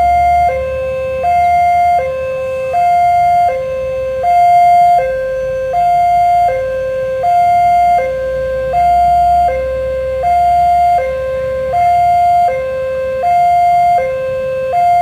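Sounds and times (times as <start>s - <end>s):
level crossing two-tone alarm: 0.0s - 15.0s.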